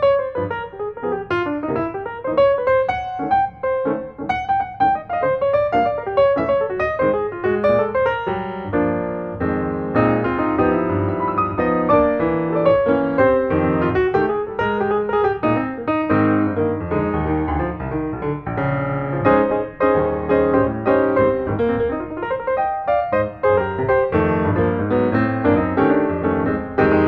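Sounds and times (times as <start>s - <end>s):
piano music with quick notes: 0.0s - 27.0s.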